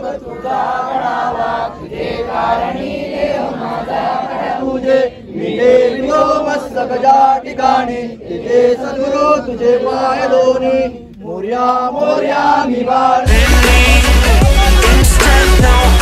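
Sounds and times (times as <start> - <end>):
group chanting in unison: 0.0 - 16.0.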